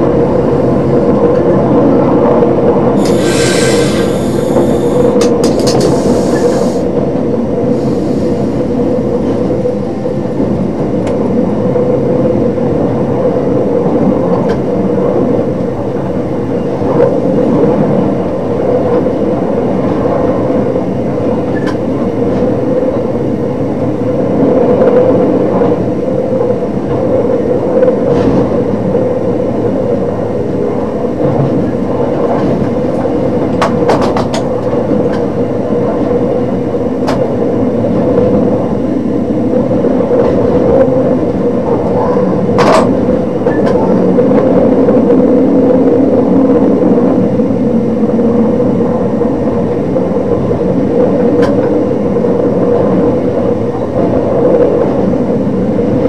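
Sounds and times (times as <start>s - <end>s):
engine and wheels on rail droning: 0.0s - 56.0s.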